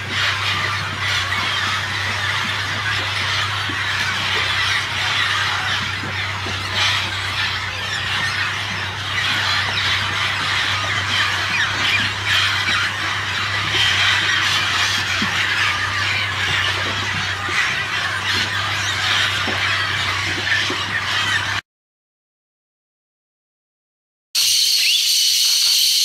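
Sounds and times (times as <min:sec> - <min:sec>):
parrots screeching: 0:00.0 - 0:21.6, 0:24.4 - 0:26.0
steady low hum: 0:00.0 - 0:21.6.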